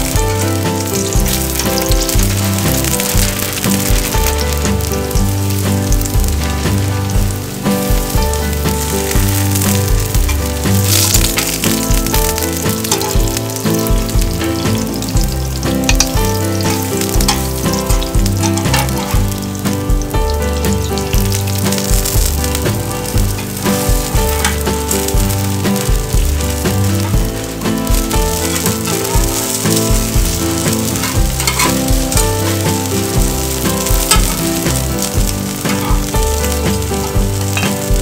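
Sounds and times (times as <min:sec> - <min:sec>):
background music: 0:00.0 - 0:38.0
pancakes sizzling in oil: 0:00.0 - 0:38.0.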